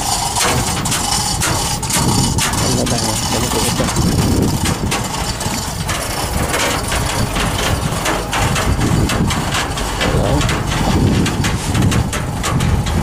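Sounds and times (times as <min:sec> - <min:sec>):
clicks and knocks: 0:00.0 - 0:13.0
engine running steadily: 0:00.0 - 0:13.0.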